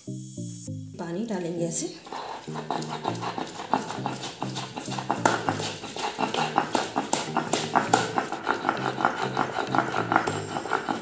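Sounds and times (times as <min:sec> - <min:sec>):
stone roller scraping and knocking: 0:02.0 - 0:11.0.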